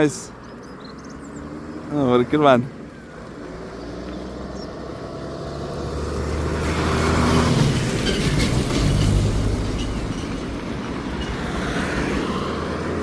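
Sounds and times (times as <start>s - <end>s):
motorhome engine passing: 0.0s - 13.0s.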